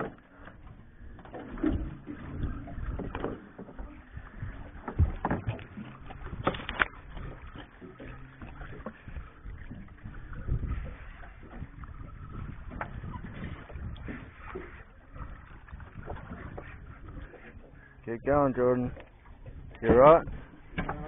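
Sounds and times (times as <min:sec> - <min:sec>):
knocks and bumps on boat: 0:00.0 - 0:21.0
low rumble of water: 0:00.0 - 0:21.0.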